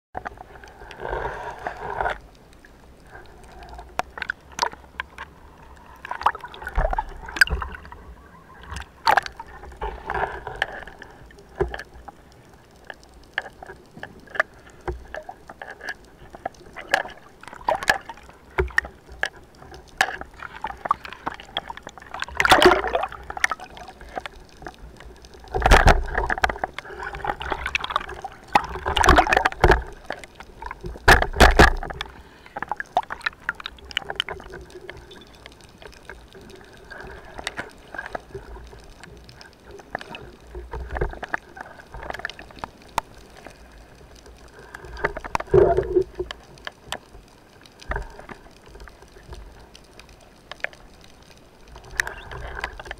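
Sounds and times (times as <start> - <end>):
underwater gurgling and sloshing: 0.2 - 52.9
sharp underwater clicks: 1.6 - 52.9.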